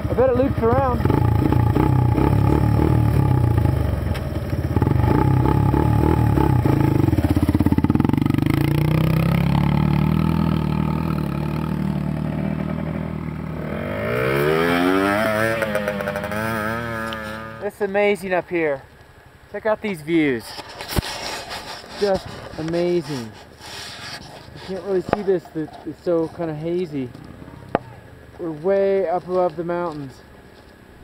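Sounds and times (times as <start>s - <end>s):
dirt bike engines revving: 0.0s - 18.7s, 21.8s - 29.9s.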